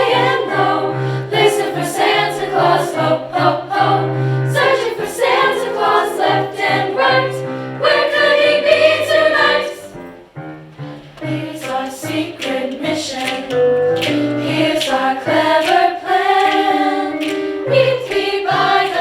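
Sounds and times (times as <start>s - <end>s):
choir singing: 0.0s - 10.0s, 11.2s - 19.0s.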